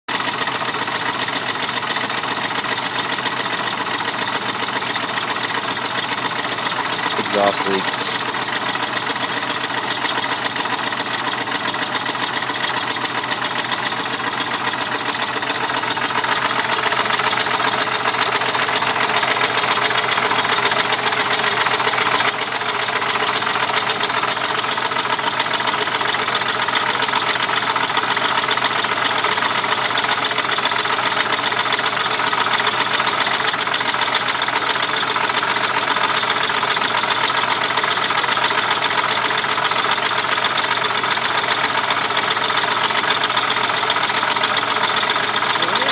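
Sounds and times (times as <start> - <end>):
car engine idling: 0.1 - 45.9.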